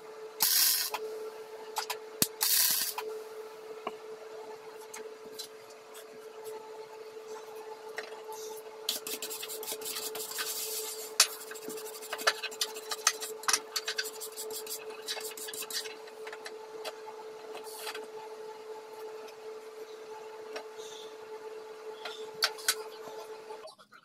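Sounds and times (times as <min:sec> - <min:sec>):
steady electrical hum: 0:00.0 - 0:23.7.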